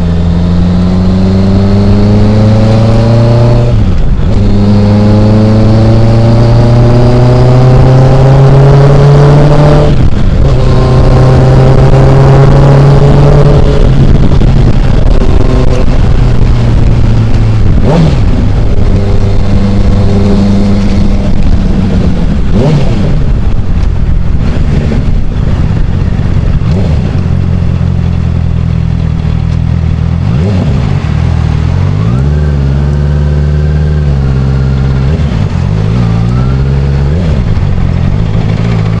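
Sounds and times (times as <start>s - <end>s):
motorcycle engine rumble: 0.0s - 39.0s.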